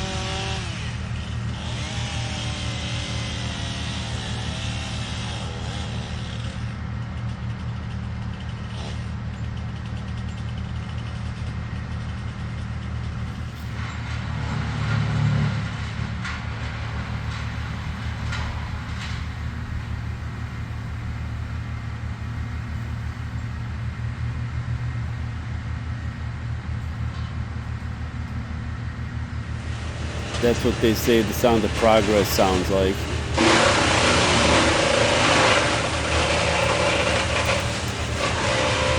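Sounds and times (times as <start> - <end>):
large engine droning: 0.0 - 38.9.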